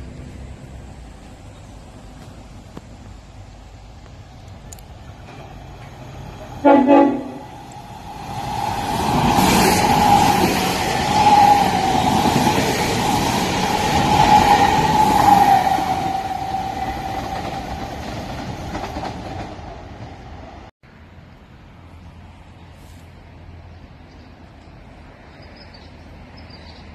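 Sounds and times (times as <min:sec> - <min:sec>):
train passing at speed: 0:00.0 - 0:26.9.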